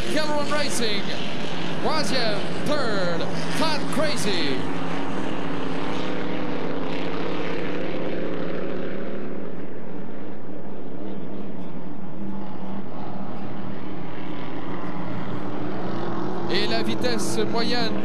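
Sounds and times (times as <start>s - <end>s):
racing boat engines running: 0.0s - 18.0s.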